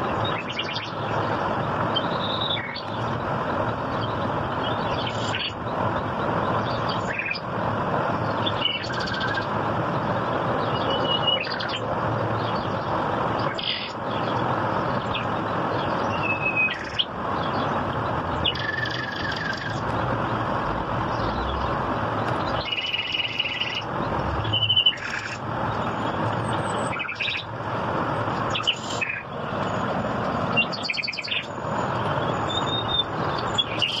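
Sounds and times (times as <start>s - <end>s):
steady rushing hiss: 0.0s - 34.0s
small birds chirping and trilling: 0.1s - 7.5s, 8.2s - 20.2s, 21.0s - 27.5s, 28.2s - 34.0s.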